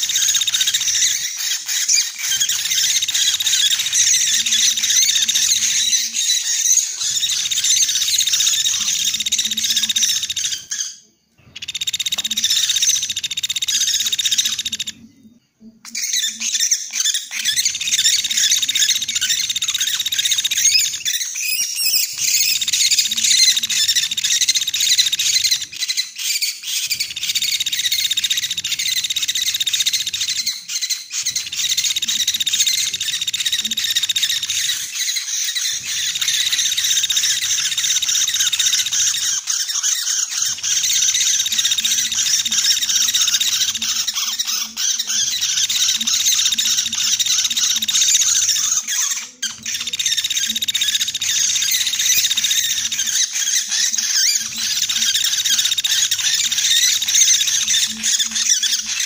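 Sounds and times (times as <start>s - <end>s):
woodpeckers chattering: 0.0s - 59.0s.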